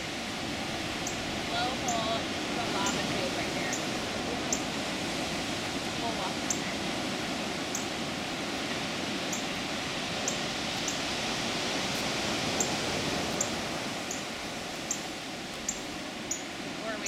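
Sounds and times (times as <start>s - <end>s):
ocean surf breaking on rocks: 0.0s - 17.0s.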